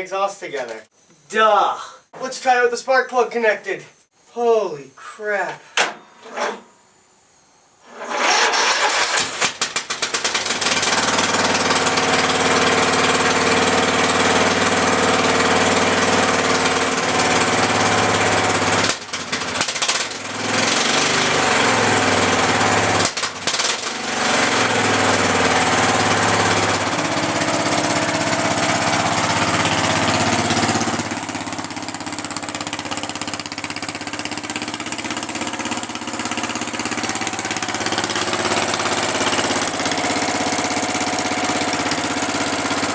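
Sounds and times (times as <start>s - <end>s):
lawn mower engine revving: 7.9s - 42.9s.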